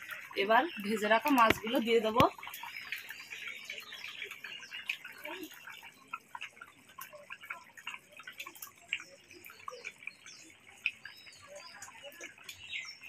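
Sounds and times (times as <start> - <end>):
curry bubbling and popping: 0.0 - 13.0.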